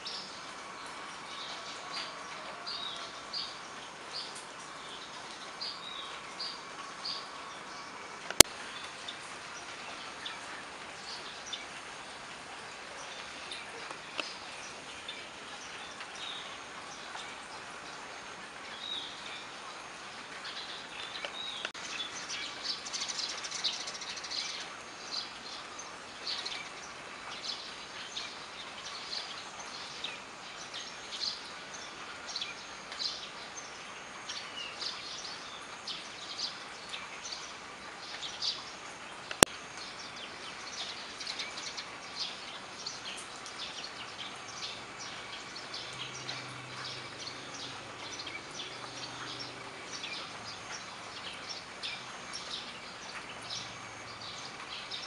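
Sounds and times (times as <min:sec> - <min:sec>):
rain on concrete and puddles: 0:00.0 - 0:55.0.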